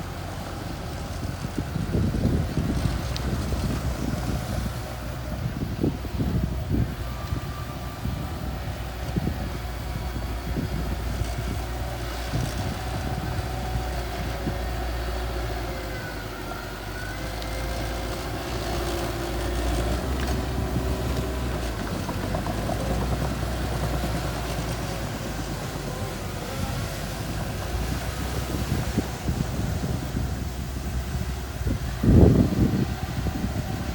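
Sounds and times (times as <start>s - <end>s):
bulldozer engine running under load: 0.0s - 33.9s.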